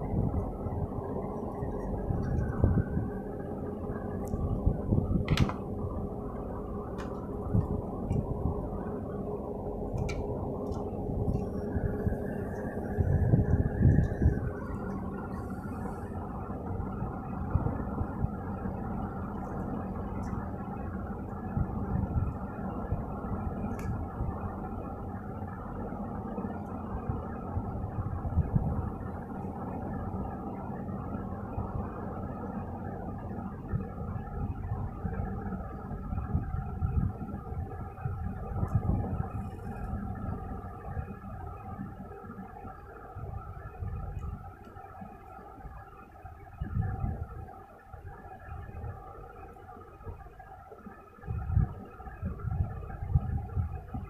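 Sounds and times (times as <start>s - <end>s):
faint steady tone: 0.0s - 54.0s
low hum and whir: 0.0s - 54.0s.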